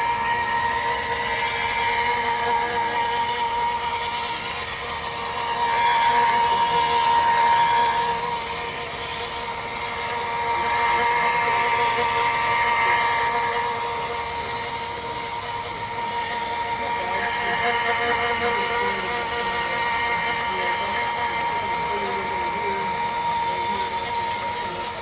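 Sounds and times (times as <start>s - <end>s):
stone polisher grinding: 0.0s - 25.0s.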